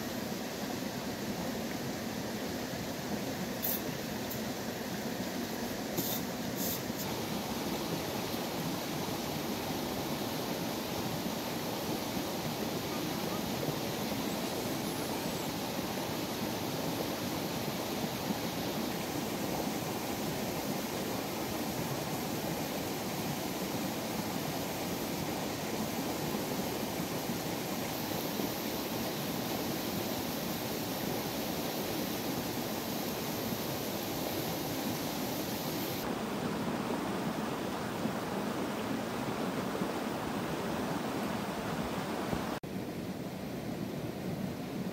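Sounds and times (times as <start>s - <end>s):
stream flowing over rocks: 0.0s - 42.6s.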